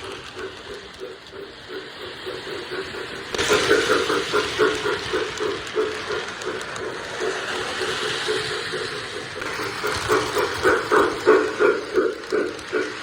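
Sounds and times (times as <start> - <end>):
model steam locomotive chuffs: 0.0 - 13.0
model train rolling on track: 0.0 - 13.0
steam hiss: 0.0 - 13.0.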